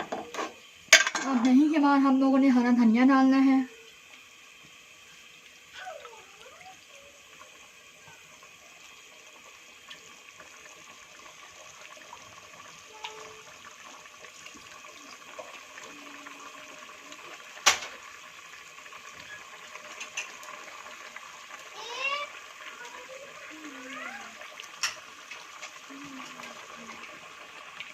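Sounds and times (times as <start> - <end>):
food sizzling and bubbling: 0.0 - 27.9.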